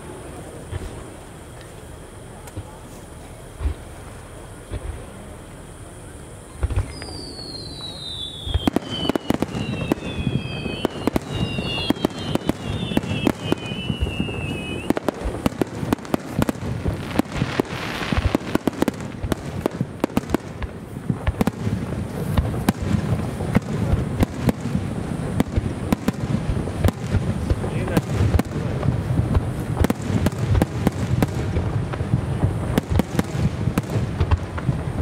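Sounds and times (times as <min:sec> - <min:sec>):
falling firework whistles: 0:00.0 - 0:35.0
fireworks booming: 0:00.0 - 0:35.0.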